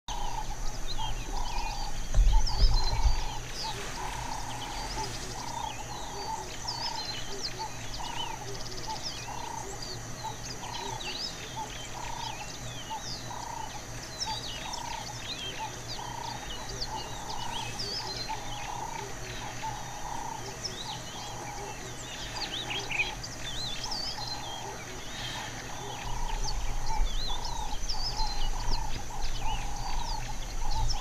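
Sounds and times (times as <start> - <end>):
birds chirping and whistling: 0.1 - 31.0
high insect hum: 0.1 - 31.0
repeated low bird call: 0.1 - 31.0.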